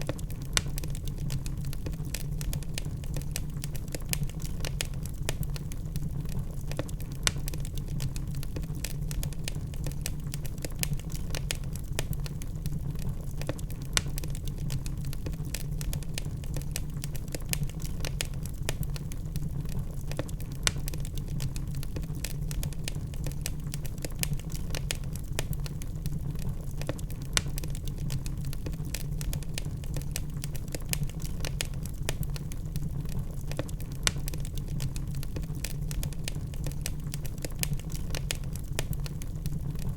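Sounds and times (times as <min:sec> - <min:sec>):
fire roaring and crackling: 0:00.0 - 0:39.9
logs popping: 0:00.0 - 0:39.9.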